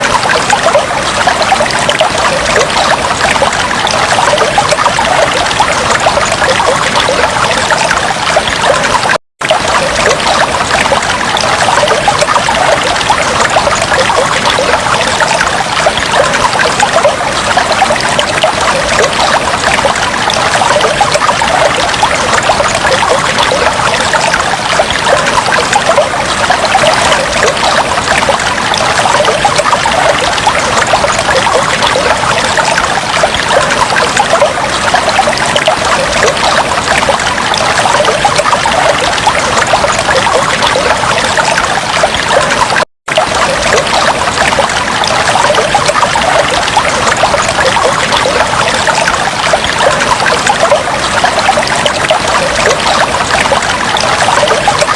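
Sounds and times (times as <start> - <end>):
aquarium water trickling: 0.0 - 54.9.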